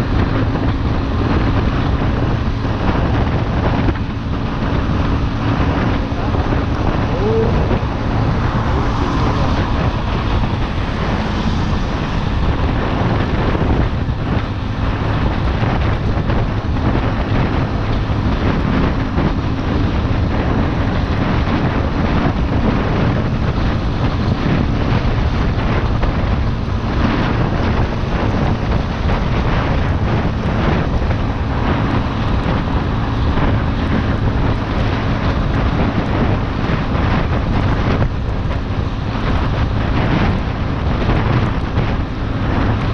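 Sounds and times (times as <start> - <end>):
motorcycle engine cruising: 0.0 - 42.9
wind buffeting microphone: 0.0 - 42.9.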